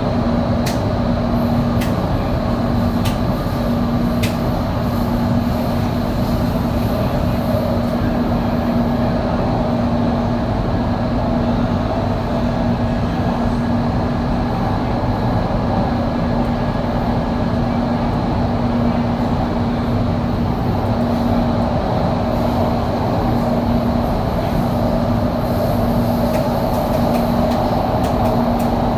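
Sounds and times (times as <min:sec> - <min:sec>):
metro train rumbling: 0:00.0 - 0:28.9
steady low hum: 0:00.0 - 0:28.9.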